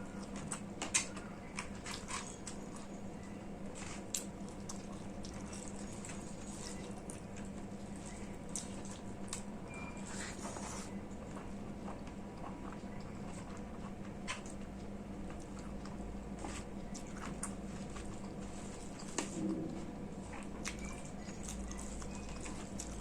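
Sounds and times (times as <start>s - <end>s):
steady low hum: 0.0s - 23.0s
person chewing food: 3.6s - 23.0s.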